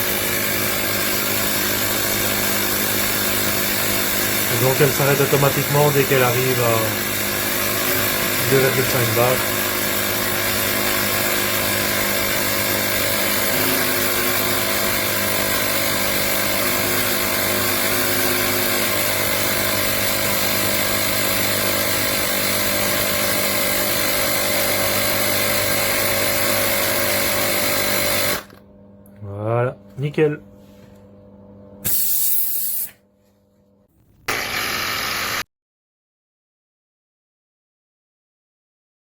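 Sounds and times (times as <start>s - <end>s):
portable air compressor running: 0.0s - 28.6s, 31.8s - 33.0s, 34.0s - 35.4s.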